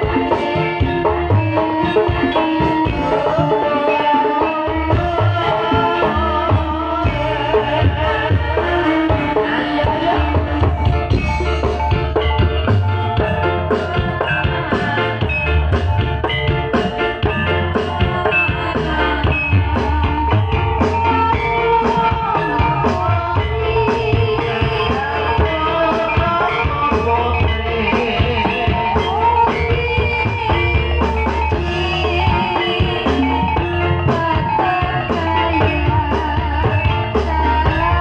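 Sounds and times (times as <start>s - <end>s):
gamelan and drums music: 0.0s - 38.0s.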